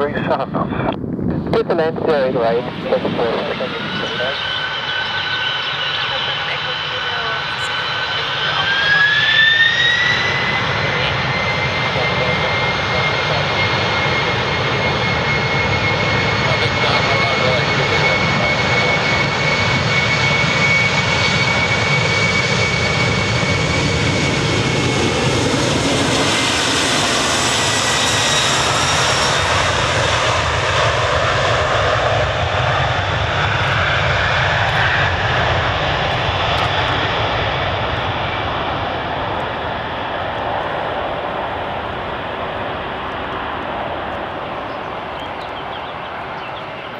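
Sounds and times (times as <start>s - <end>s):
jet engines at takeoff thrust: 0.0s - 46.9s.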